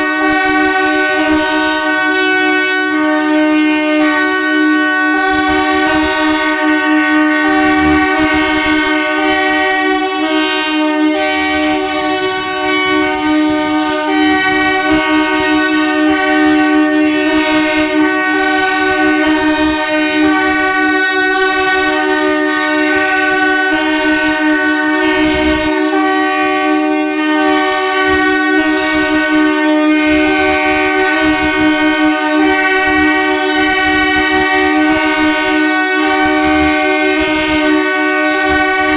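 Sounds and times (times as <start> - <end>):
train horns chord: 0.0 - 38.9.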